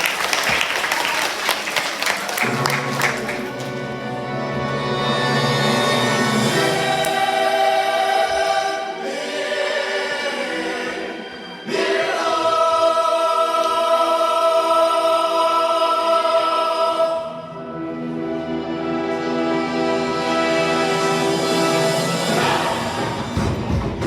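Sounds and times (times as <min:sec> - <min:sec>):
choir singing held notes: 0:01.7 - 0:24.0.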